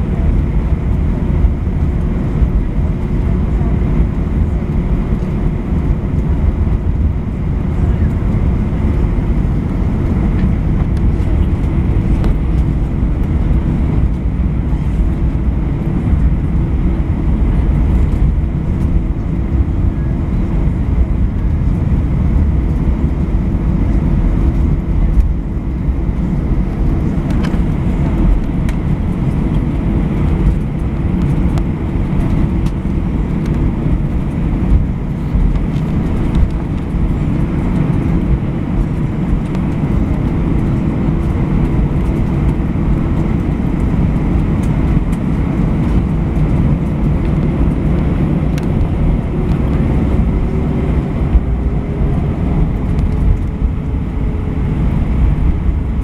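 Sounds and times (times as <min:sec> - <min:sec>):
aircraft engines rumbling: 0:00.0 - 0:56.0.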